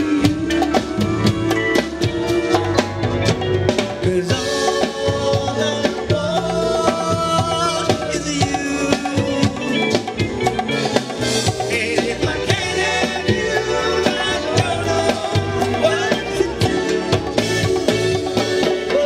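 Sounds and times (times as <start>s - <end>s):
man singing: 0.0s - 3.2s, 3.8s - 10.3s, 11.5s - 19.0s
rock band playing live: 0.0s - 19.0s.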